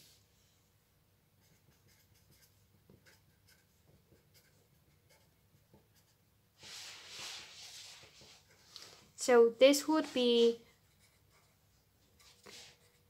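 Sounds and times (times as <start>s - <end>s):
pen scratching on paper: 1.4s - 8.9s, 9.9s - 13.0s.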